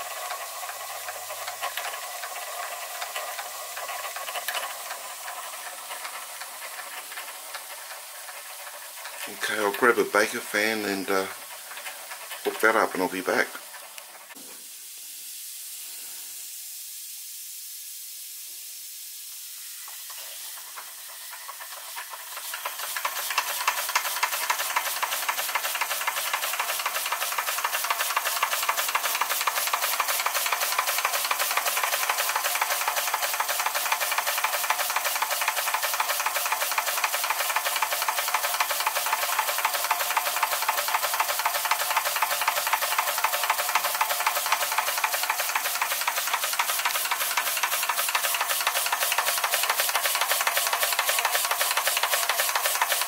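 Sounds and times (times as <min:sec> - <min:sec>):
steam hissing: 0:00.0 - 0:53.0
toy steam engine exhaust beats: 0:00.0 - 0:53.0.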